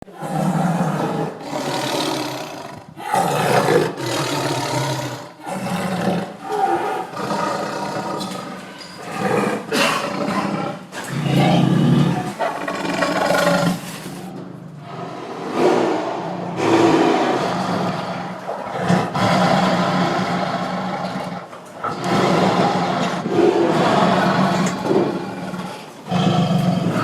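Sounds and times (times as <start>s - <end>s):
tiger roaring: 0.0s - 27.0s.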